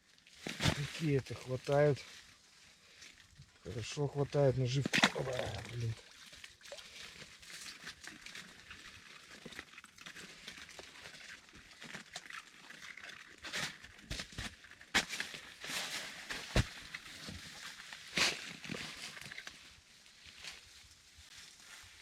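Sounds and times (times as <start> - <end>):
rustling and crinkling: 0.0 - 22.0.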